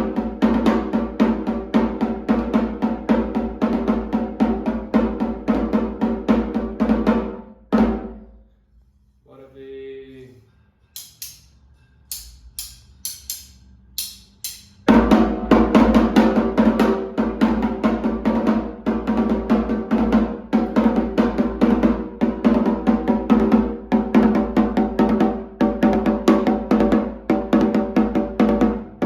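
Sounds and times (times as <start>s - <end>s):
hand drum rhythm: 0.0s - 8.1s, 12.1s - 29.0s.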